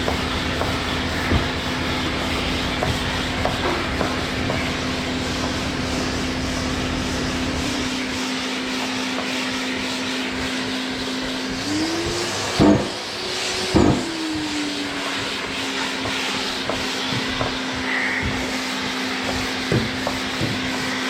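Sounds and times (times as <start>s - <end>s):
sander knocks: 0.0s - 5.8s, 6.7s - 9.7s, 10.3s - 21.0s
orbital sander running: 0.0s - 21.0s.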